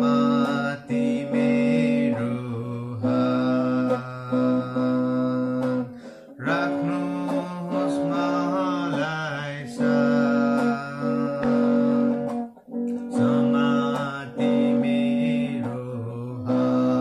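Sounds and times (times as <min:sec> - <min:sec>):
man singing: 0:00.0 - 0:12.4, 0:13.0 - 0:17.0
guitar playing sustained notes: 0:00.0 - 0:17.0.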